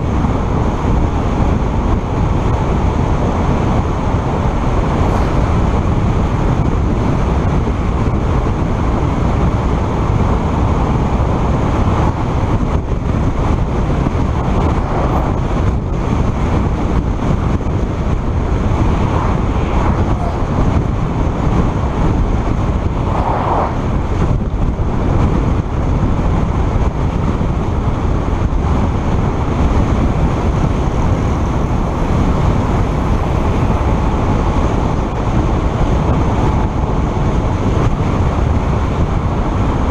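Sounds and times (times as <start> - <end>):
heavy low rumble: 0.0 - 39.9
wind and road rush: 0.0 - 39.9
wind buffeting microphone: 0.0 - 39.9.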